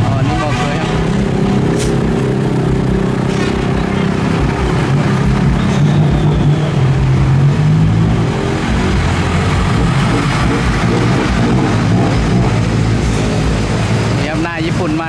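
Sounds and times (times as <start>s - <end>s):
diesel truck engines droning: 0.0s - 15.0s.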